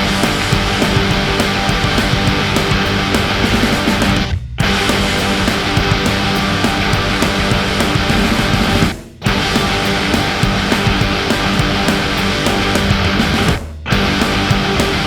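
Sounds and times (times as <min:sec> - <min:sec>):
loud rock music with electric guitar: 0:00.0 - 0:15.0.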